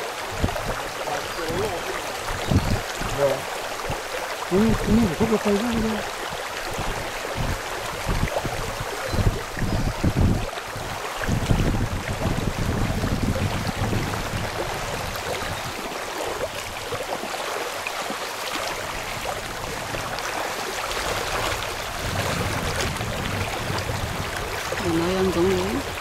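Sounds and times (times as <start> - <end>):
river rushing over stones: 0.0 - 26.0
wind rumbling on microphone: 0.0 - 26.0.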